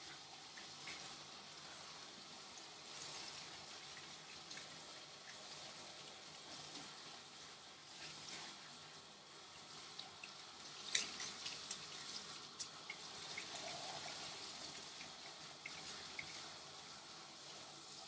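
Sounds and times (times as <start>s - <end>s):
water dripping: 0.0s - 18.0s
water spraying on wet fur: 0.0s - 18.0s.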